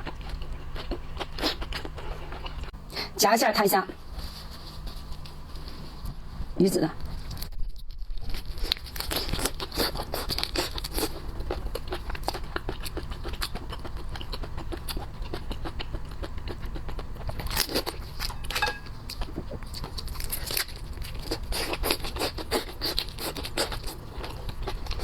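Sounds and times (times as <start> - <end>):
person chewing crunchy food: 0.0 - 2.8, 7.2 - 25.0.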